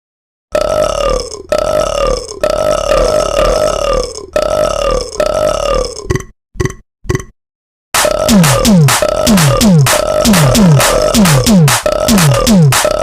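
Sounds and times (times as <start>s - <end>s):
loud burps: 0.5s - 7.3s, 8.0s - 13.0s.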